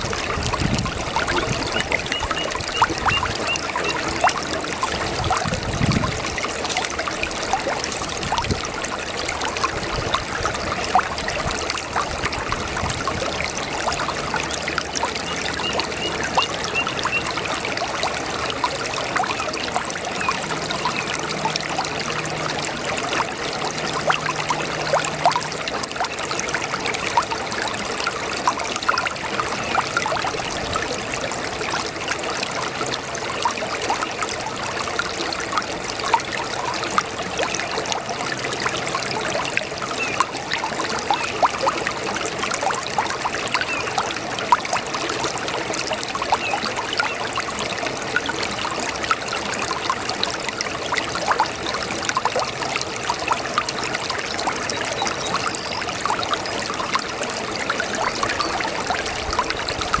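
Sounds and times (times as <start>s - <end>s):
brook water running and trickling: 0.0s - 60.0s.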